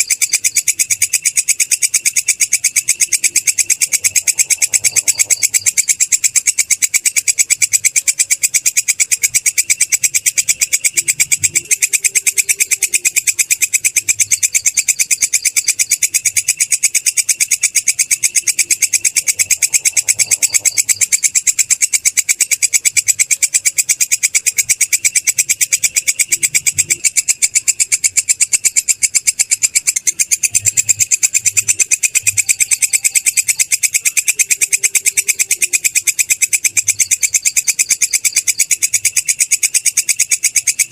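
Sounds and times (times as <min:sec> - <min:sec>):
katydid high-pitched trill: 0:00.0 - 0:40.9.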